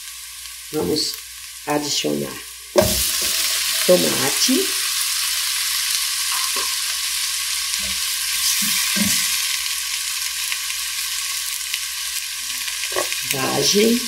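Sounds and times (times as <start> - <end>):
tomato sizzling in hot oil: 0.0 - 14.0.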